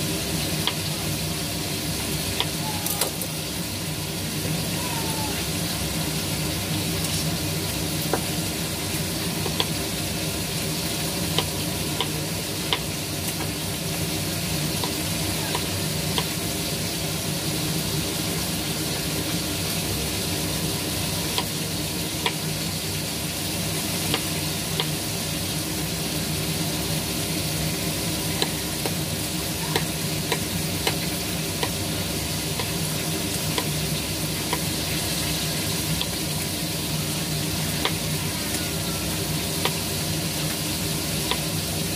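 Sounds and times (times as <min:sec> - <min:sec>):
steady hiss and low hum: 0:00.0 - 0:41.9.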